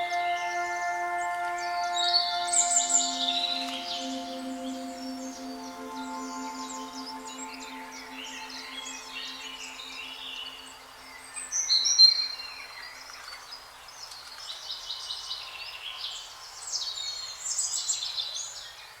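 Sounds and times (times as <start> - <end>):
faint background hiss: 0.0 - 15.4
songbirds singing: 0.0 - 19.0.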